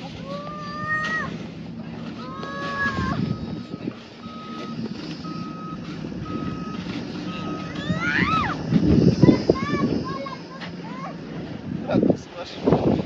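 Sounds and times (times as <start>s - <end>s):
low engine rumble: 0.0s - 13.0s
rising whine: 0.0s - 13.0s
reversing alarm beeping: 0.3s - 11.8s.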